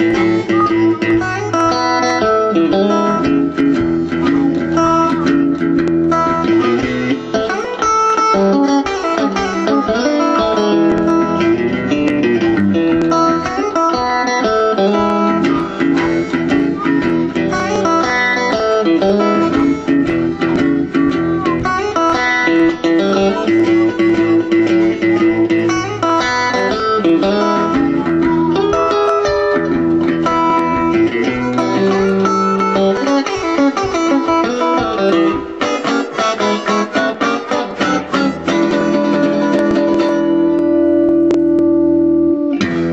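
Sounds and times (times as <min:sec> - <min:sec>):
electric guitar blues: 0:00.0 - 0:42.9
harmonica bending notes: 0:00.0 - 0:42.9.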